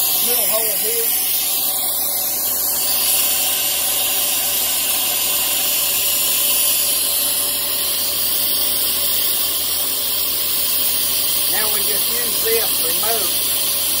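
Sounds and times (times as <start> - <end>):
coolant nozzle hissing: 0.0 - 14.0.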